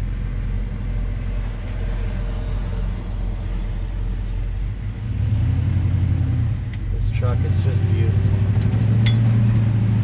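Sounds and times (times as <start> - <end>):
engine and road drone in cab: 0.0 - 10.0.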